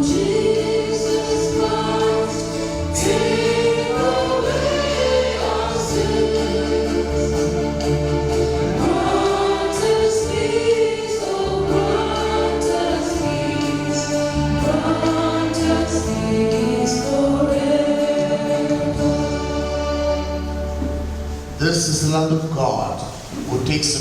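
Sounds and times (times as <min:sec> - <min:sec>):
choir singing: 0:00.0 - 0:21.8
low bass notes: 0:00.0 - 0:22.2.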